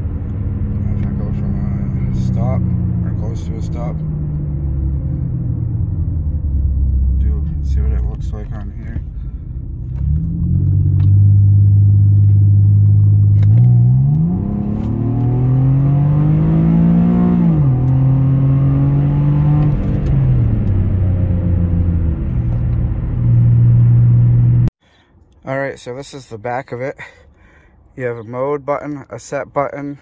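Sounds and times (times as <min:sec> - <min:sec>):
car engine accelerating: 0:00.0 - 0:24.7.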